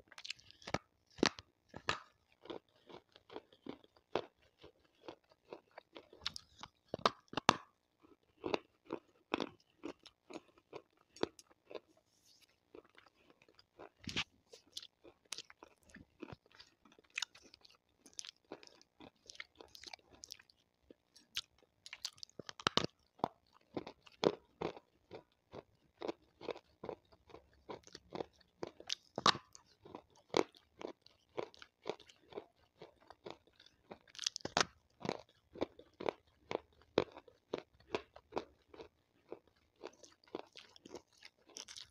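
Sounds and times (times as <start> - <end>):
slate stone crunching when chewed: 0.1 - 41.9.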